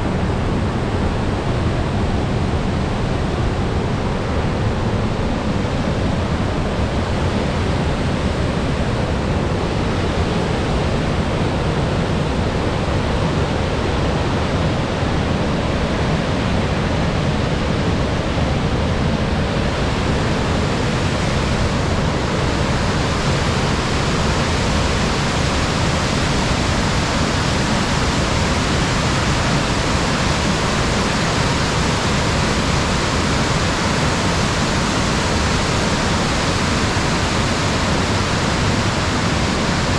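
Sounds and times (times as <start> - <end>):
waterfall rushing: 4.0 - 39.9.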